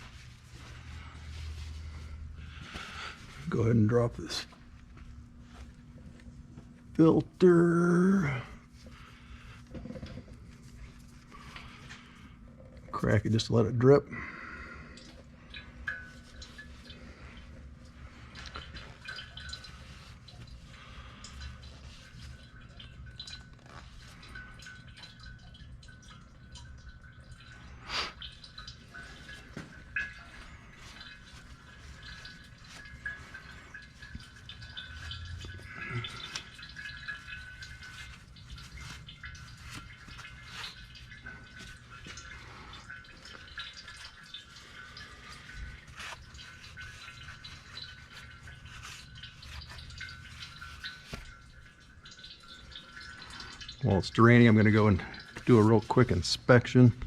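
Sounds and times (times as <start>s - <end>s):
oil dripping: 0.0s - 57.0s.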